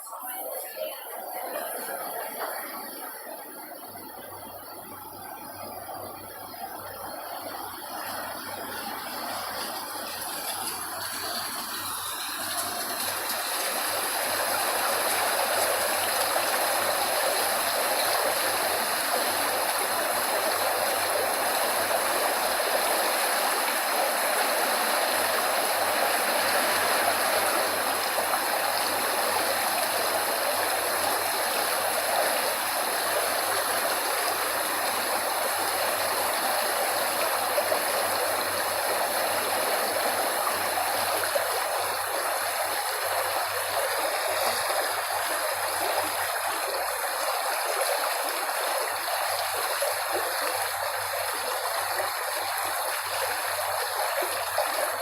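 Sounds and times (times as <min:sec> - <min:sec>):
stream rushing: 0:07.2 - 0:55.0.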